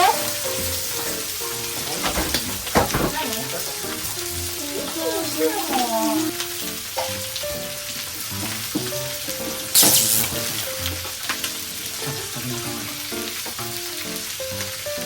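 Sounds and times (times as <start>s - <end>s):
light background music: 0.0s - 15.0s
meat sizzling on a hot plate: 0.0s - 15.0s.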